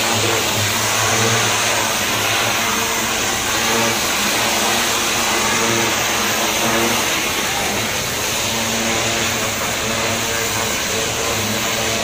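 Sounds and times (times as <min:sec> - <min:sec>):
engine hum: 0:00.0 - 0:12.0
high-pressure nozzle hissing: 0:00.0 - 0:12.0.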